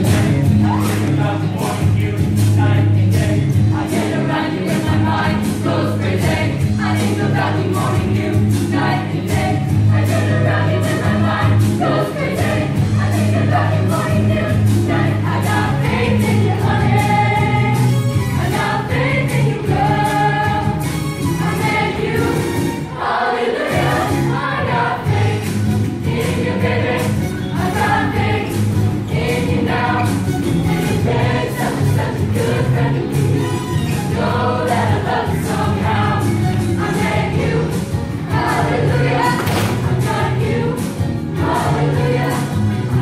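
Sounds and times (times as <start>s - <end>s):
choir singing: 0.0s - 43.0s
instrumental accompaniment with beat: 0.0s - 43.0s.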